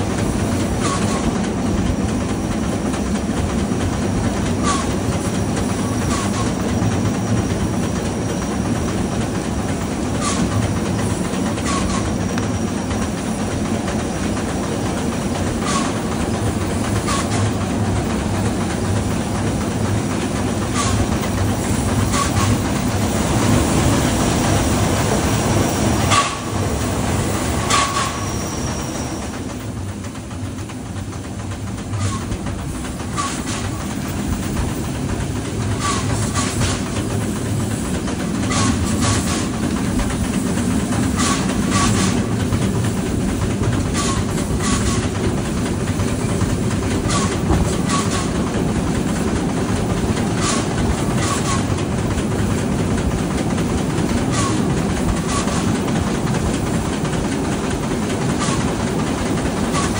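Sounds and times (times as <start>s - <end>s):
steam train rumbling: 0.0s - 59.9s
wheels clicking over rail joints: 0.0s - 59.9s.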